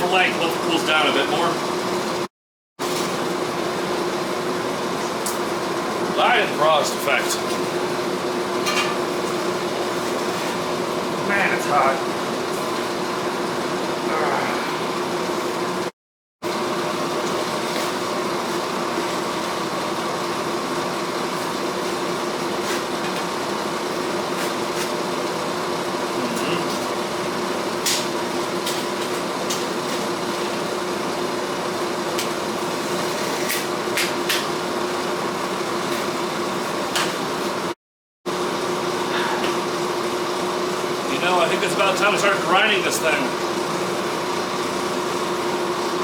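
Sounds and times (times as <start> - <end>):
shop equipment humming: 0.0 - 46.0.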